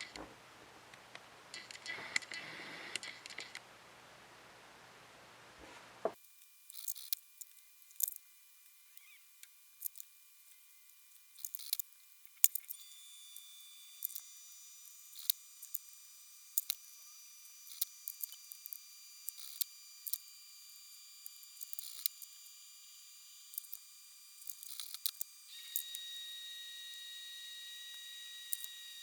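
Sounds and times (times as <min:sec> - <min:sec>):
faint high-pitched whine: 0:00.0 - 0:29.0.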